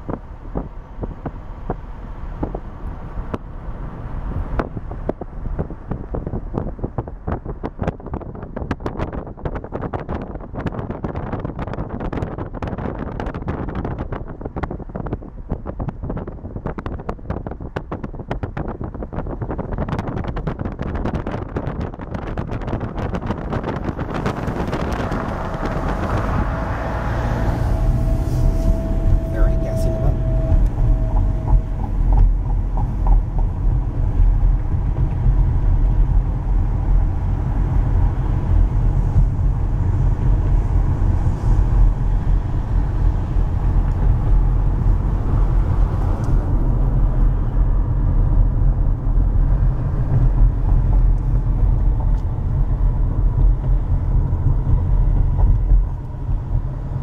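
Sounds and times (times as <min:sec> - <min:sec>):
car interior road and wind noise: 0:00.0 - 0:57.0.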